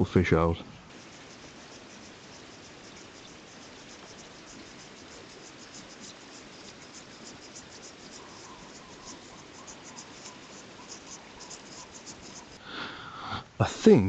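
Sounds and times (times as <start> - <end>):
steady hiss: 0.0 - 14.0
fishing line scratchy ticking: 0.9 - 12.6.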